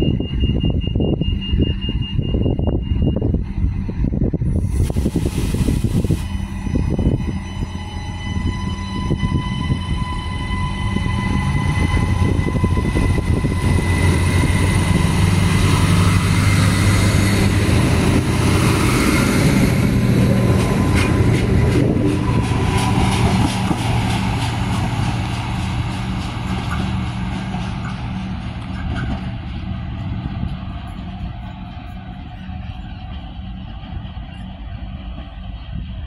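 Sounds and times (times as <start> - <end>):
diesel railcar engine: 0.0 - 36.0.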